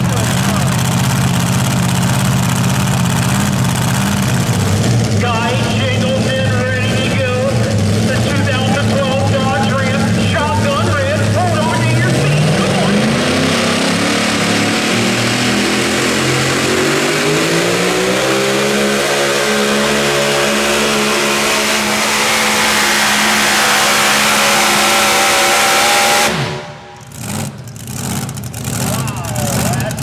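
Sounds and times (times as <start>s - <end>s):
truck engine running hard: 0.0s - 30.0s.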